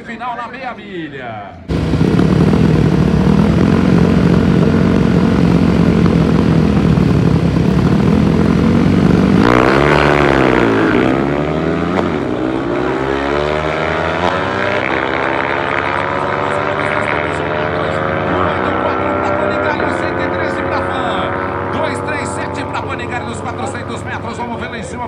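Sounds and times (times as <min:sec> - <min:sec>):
motorcycle engines droning: 0:01.4 - 0:25.0
motorcycle accelerating hard: 0:01.7 - 0:24.7.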